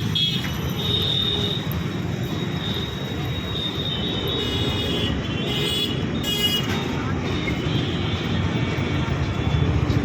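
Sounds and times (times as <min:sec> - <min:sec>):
rumble of passing vehicles: 0:00.0 - 0:10.0.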